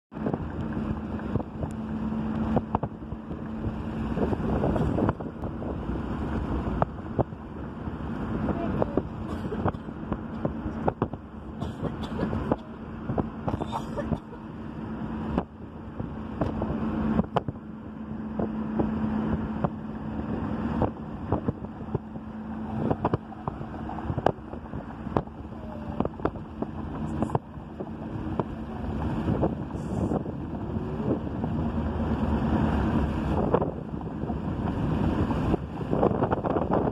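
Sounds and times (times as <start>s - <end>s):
car engine drone: 0.1s - 36.9s
road noise: 0.1s - 36.9s
wind buffeting microphone: 0.1s - 36.9s.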